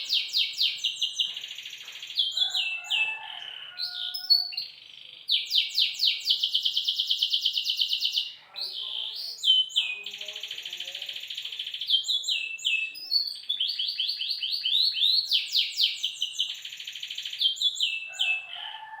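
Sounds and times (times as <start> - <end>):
songbird singing trills and whistles: 0.0 - 18.7.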